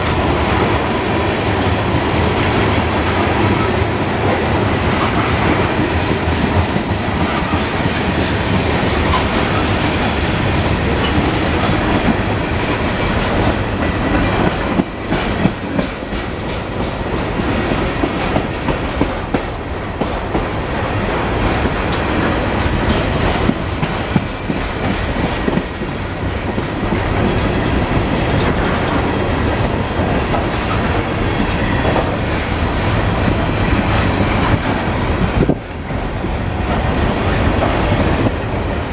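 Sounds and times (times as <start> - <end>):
train wheels clickety-clack: 0.0 - 38.9.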